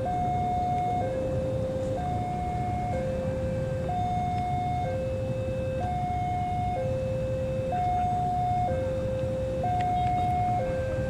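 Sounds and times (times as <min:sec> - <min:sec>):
two-tone railway warning alarm: 0:00.0 - 0:11.0.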